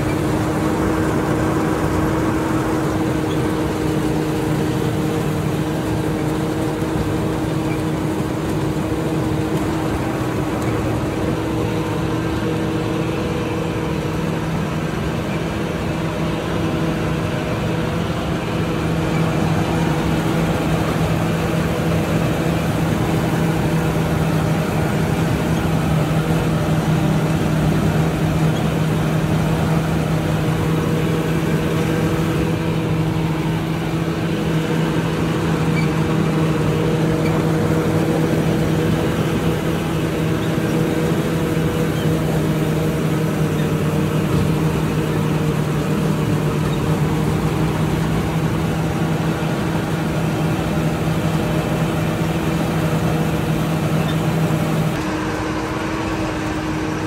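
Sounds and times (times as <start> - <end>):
combine harvester engine humming: 0.0 - 57.0.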